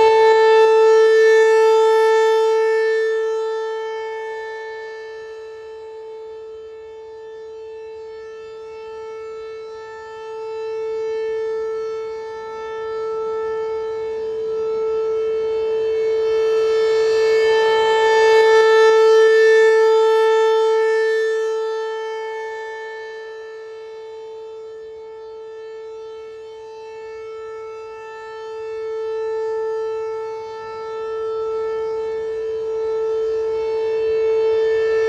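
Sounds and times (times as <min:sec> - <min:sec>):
warning siren steady tone: 0:00.0 - 0:35.0.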